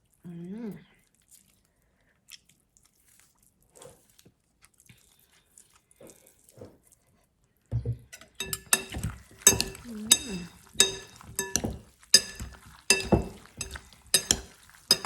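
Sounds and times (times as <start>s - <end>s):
chewing crunchy food: 0.9s - 7.6s, 9.0s - 15.0s.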